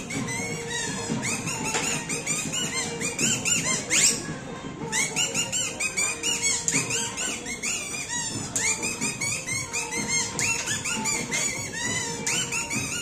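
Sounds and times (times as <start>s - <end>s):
puppeteer's reed squeaking chirps: 0.0s - 4.3s, 4.9s - 13.0s.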